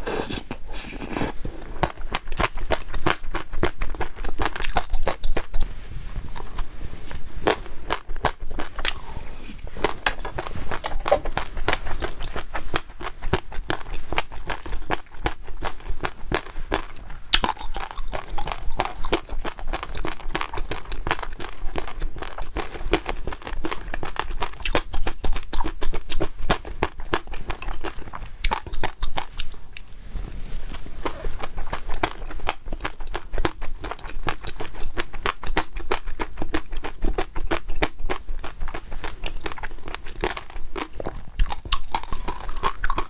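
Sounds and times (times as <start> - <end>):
crisp crunching chewing: 0.0 - 29.9, 30.7 - 43.0.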